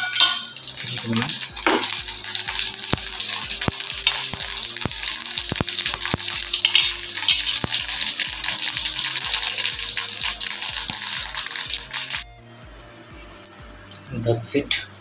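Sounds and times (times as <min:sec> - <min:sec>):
oil popping: 0:00.0 - 0:14.8
spices sizzling in hot oil: 0:00.0 - 0:15.0.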